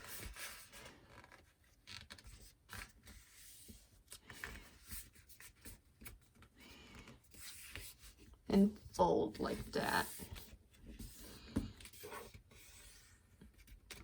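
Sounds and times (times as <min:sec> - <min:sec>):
paper rustling and folding: 0:00.0 - 0:08.5, 0:09.4 - 0:14.0.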